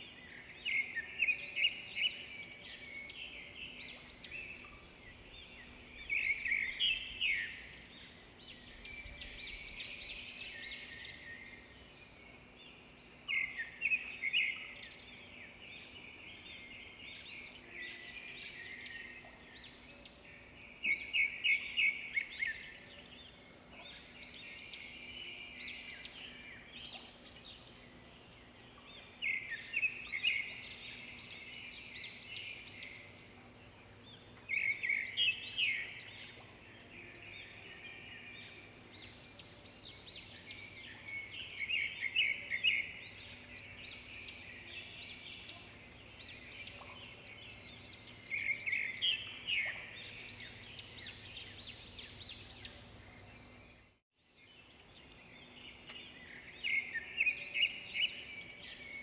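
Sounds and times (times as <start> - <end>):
birds singing and chirping: 0.0 - 59.0.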